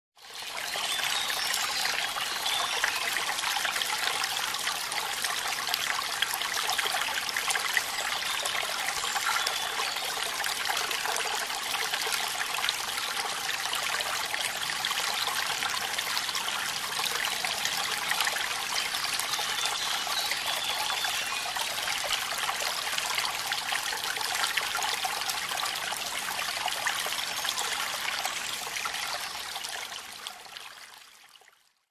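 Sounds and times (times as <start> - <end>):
stream flowing over stones: 0.2 - 31.9.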